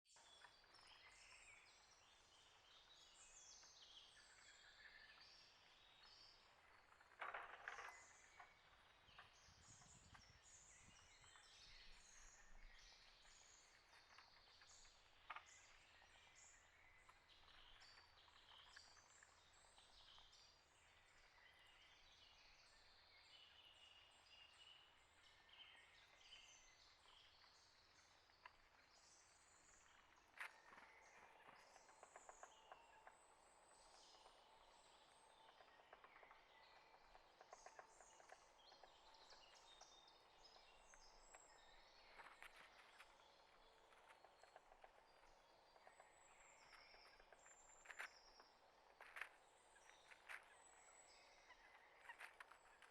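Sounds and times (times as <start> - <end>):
wild birds chirping: 0.1 - 52.9.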